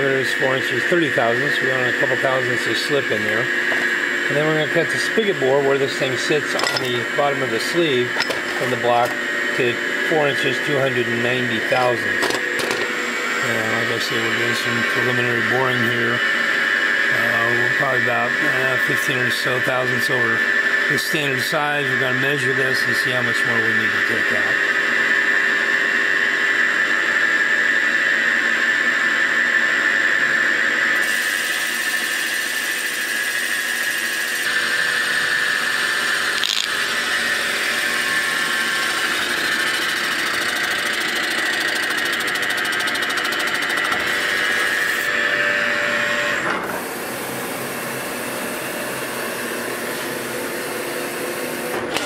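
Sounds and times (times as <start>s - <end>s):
steady machine noise: 0.0s - 24.7s, 31.0s - 48.0s.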